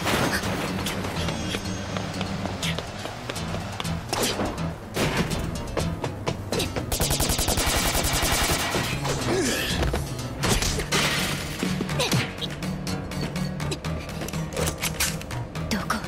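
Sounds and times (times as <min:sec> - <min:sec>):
dramatic background music: 0:00.0 - 0:16.0.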